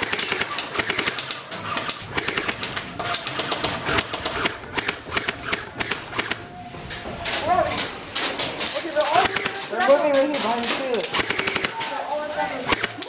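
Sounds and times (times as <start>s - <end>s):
airsoft guns firing: 0.0s - 6.6s, 7.2s - 13.0s.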